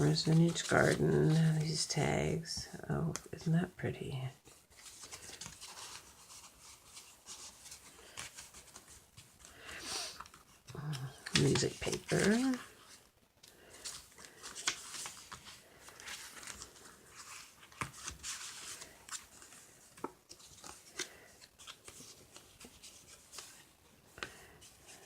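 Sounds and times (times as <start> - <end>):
paper pages rustling: 0.0 - 1.9, 4.4 - 25.0.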